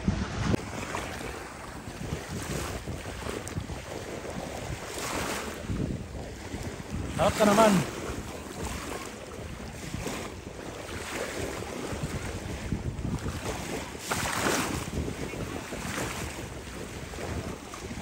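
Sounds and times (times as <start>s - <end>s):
sea waves washing on beach: 0.0s - 18.0s
wind buffeting microphone: 0.0s - 18.0s.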